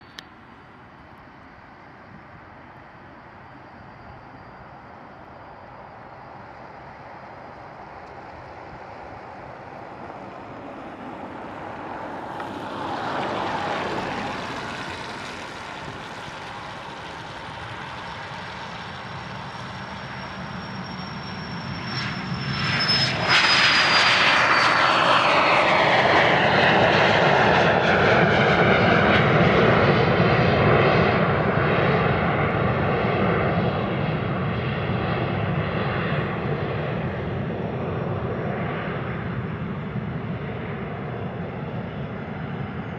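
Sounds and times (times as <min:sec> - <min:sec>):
jet engines roaring on takeoff: 0:00.0 - 0:42.9.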